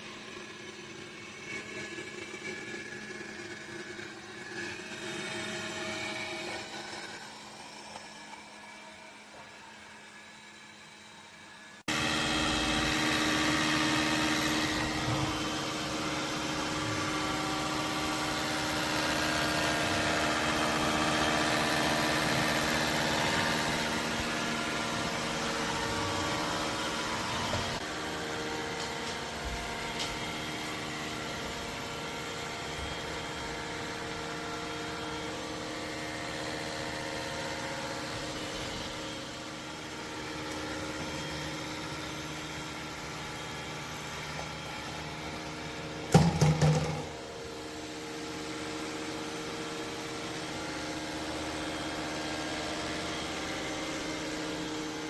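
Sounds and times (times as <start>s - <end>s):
fan motor whining hum: 0.0s - 55.0s.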